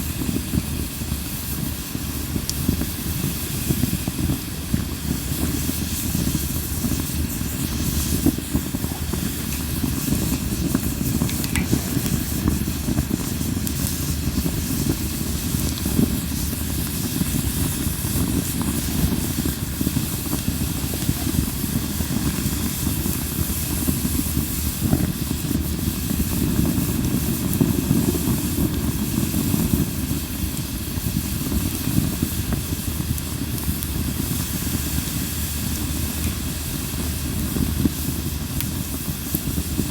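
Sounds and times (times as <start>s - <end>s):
campfire burning: 0.0s - 39.9s
wood crackling and popping: 1.9s - 39.9s.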